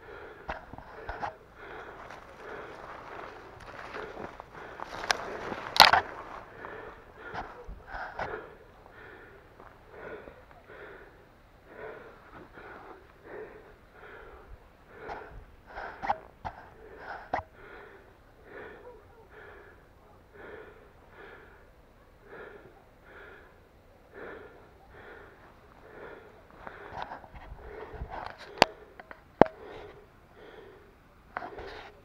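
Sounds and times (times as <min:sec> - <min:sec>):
heavy rhythmic panting: 0:00.0 - 0:32.0.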